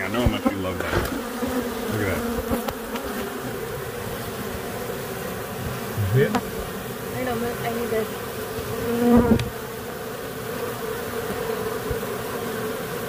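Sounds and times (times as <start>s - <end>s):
bees humming: 0.0s - 13.0s.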